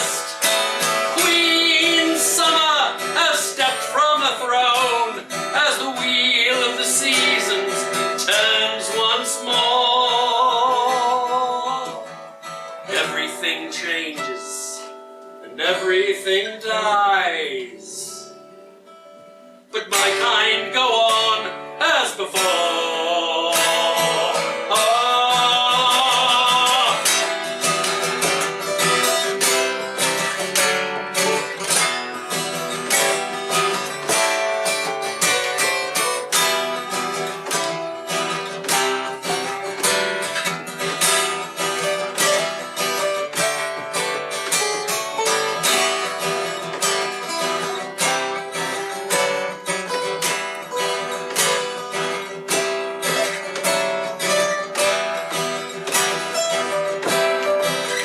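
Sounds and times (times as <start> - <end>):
acoustic guitars strumming: 0.0 - 58.0.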